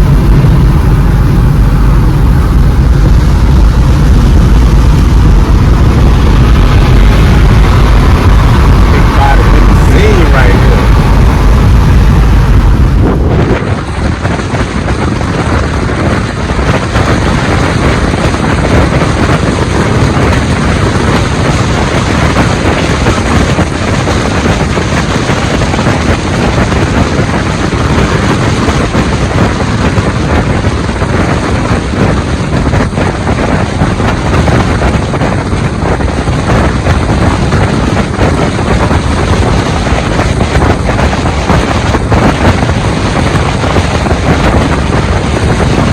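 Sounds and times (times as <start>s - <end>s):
road noise from moving vehicle: 0.0s - 45.9s
wind buffeting microphone: 0.0s - 45.9s
wind rush: 0.0s - 45.9s.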